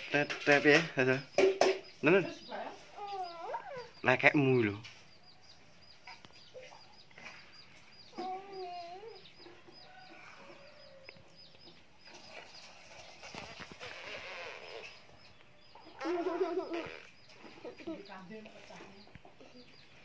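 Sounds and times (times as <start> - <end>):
chickens clucking faintly: 0.0 - 20.0
high peeping chirps: 1.0 - 20.0.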